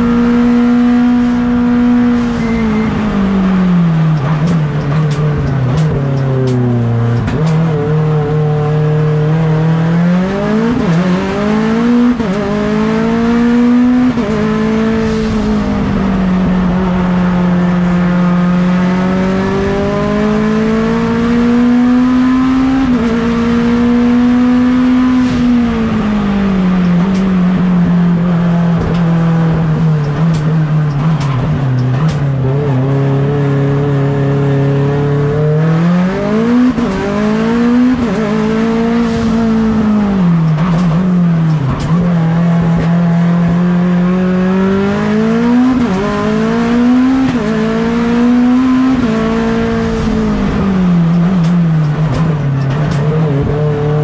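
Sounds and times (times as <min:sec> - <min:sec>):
race car engine revving under load: 0:00.0 - 0:54.0.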